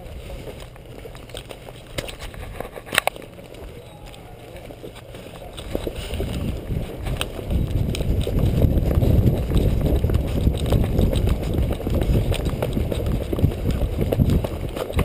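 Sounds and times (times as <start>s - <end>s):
running footsteps on dirt trail: 0.0s - 15.0s
wind rumble on microphone: 0.0s - 15.0s.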